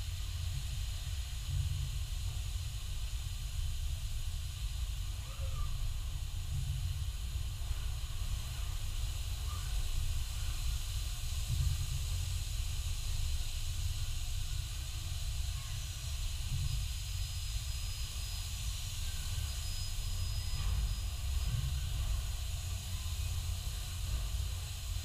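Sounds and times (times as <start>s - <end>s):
air system rumble: 0.0s - 25.0s.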